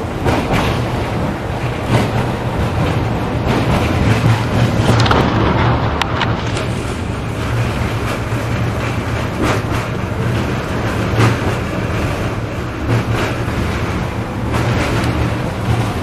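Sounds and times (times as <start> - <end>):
tram running hum: 0.0 - 16.0.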